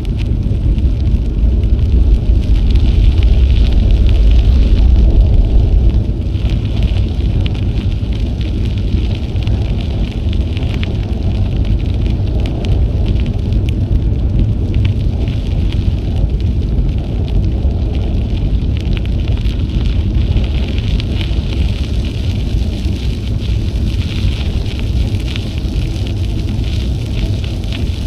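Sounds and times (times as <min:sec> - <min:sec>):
tyres crackling on trail: 0:00.0 - 0:28.0
wind rumbling on microphone: 0:00.0 - 0:28.0.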